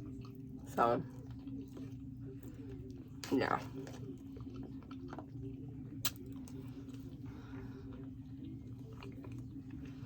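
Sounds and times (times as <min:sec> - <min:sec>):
squishy chewing of food: 0:00.0 - 0:10.0
steady low hum: 0:00.0 - 0:10.0.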